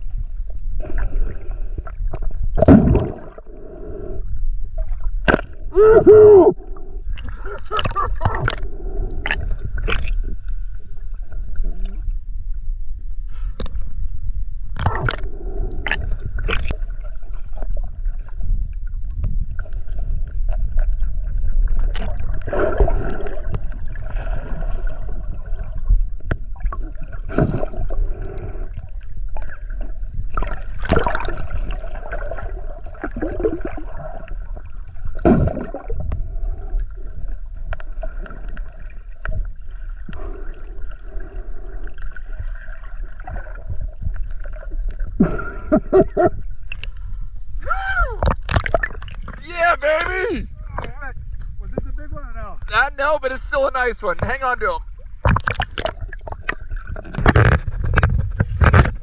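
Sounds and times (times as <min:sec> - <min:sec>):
low rumble and hum: 0:00.0 - 0:59.0
water sloshing and gurgling: 0:00.0 - 0:59.0.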